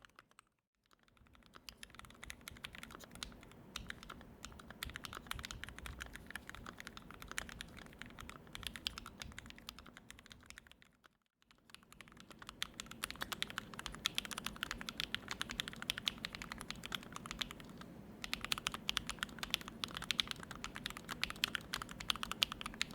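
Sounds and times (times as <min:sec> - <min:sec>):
fast mechanical keyboard typing: 0:00.0 - 0:22.9.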